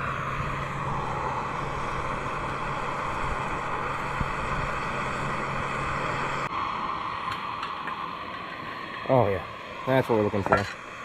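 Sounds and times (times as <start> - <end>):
camp stove burner hissing: 0.0 - 11.0.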